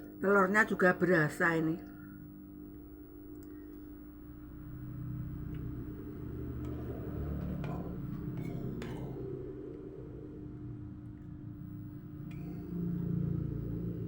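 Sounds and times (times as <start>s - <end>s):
steady hum: 0.0s - 14.0s
low rumble: 2.2s - 14.0s.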